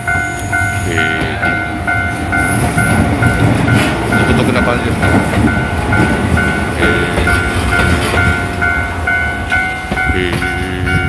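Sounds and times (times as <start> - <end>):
level crossing bell dinging: 0.0 - 11.0
train wheels rumbling and clacking: 0.0 - 11.0.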